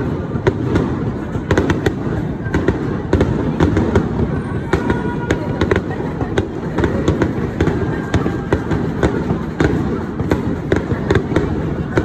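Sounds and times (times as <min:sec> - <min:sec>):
firework shells booming: 0:00.0 - 0:12.0
sharp firework cracks: 0:00.0 - 0:12.0.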